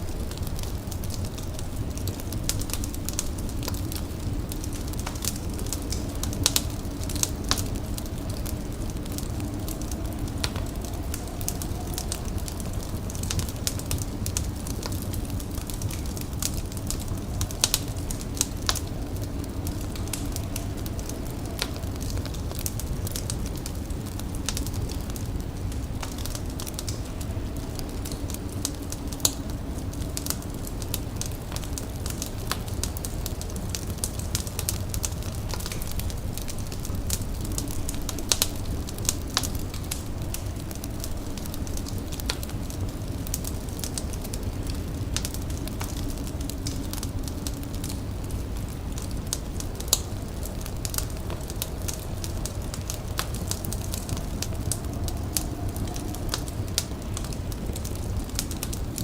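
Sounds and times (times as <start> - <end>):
fire crackling and popping: 0.0 - 59.0
low rumble: 0.0 - 59.0.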